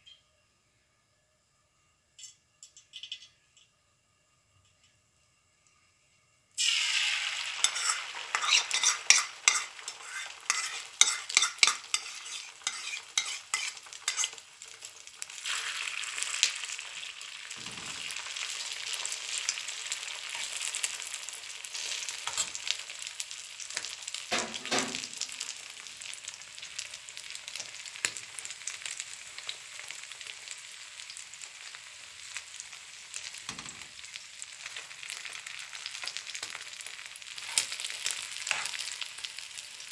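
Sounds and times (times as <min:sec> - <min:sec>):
eggs sizzling in a frying pan: 0:02.2 - 0:03.8, 0:06.4 - 0:39.9.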